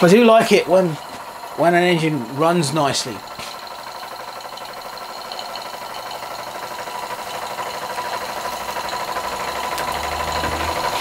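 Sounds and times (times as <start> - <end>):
model steam engine running fast: 0.0 - 11.0.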